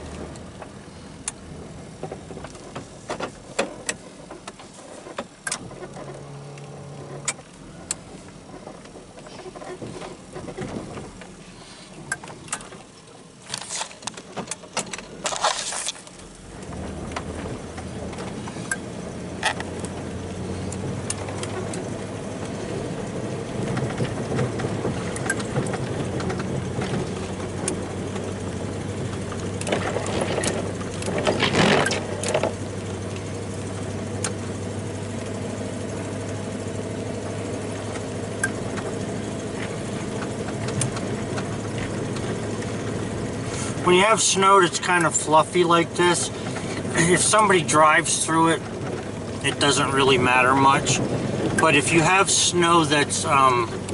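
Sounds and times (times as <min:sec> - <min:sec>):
truck engine running: 0:00.0 - 0:53.9.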